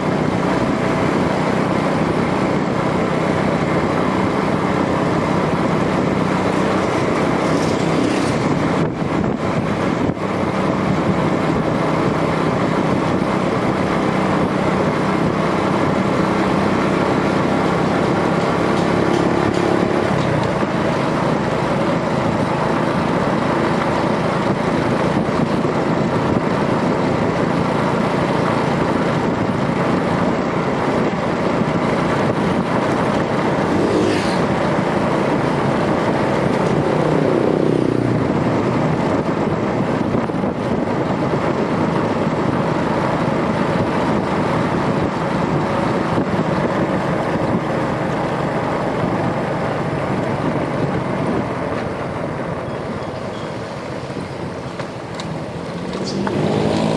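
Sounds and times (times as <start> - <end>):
motorcycle engine running: 0.0 - 56.9
road and wind noise: 0.0 - 56.9.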